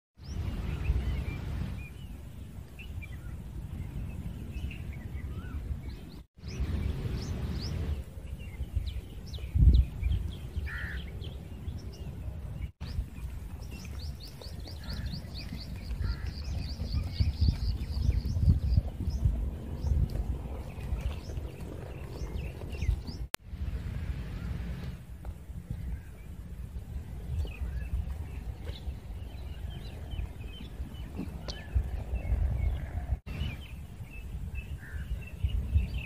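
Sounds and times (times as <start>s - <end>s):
birds chirping: 0.2s - 23.4s, 24.3s - 36.0s
low rumble: 3.2s - 35.0s.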